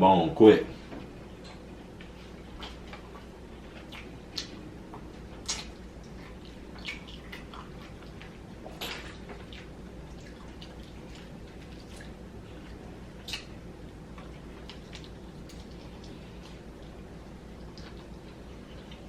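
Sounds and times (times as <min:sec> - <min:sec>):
low steady hum: 0:00.0 - 0:19.0
chewing and lip smacks: 0:01.4 - 0:19.0.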